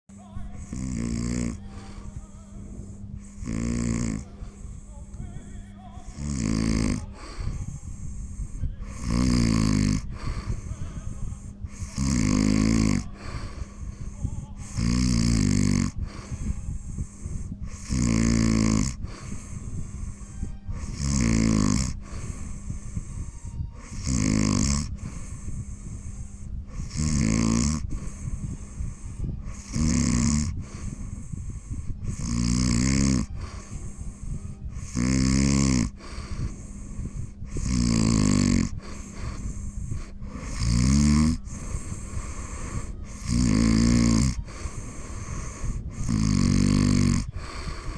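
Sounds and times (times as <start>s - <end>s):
soft breathing hiss: 0.1s - 47.9s
loud pitched snore: 0.4s - 4.9s, 6.0s - 47.9s.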